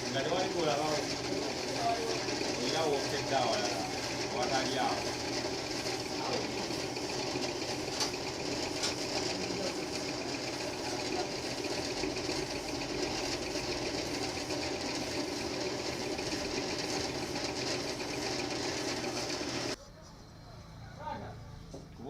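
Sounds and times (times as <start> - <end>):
lathe boring metal: 0.0 - 19.8.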